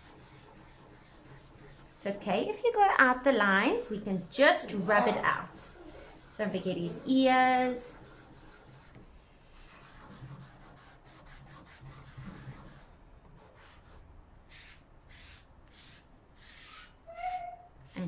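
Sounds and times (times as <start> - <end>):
fingertip rubbing on paper: 0.0 - 2.5, 4.6 - 18.0.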